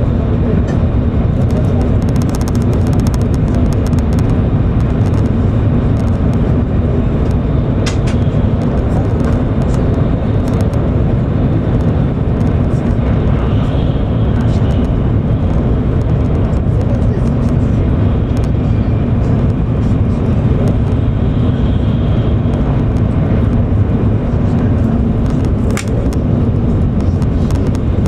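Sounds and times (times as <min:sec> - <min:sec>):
train cabin rumble: 0:00.0 - 0:28.0.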